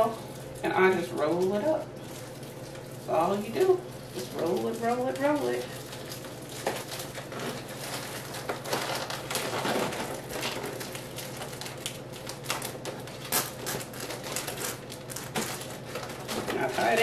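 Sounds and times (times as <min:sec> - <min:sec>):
balloons crinkling and rubbing: 0:01.5 - 0:17.0.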